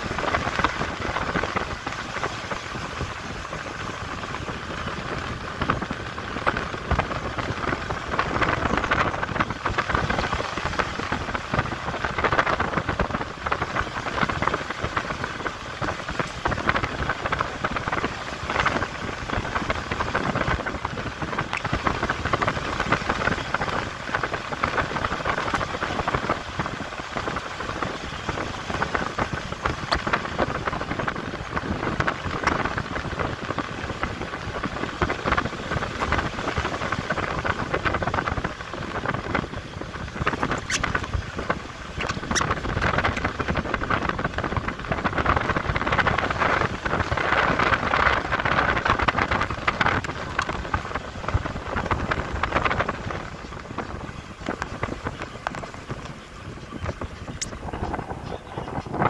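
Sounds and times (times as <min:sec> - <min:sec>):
tyre and wind noise: 0:00.0 - 0:59.0
dense crackle: 0:00.1 - 0:59.0.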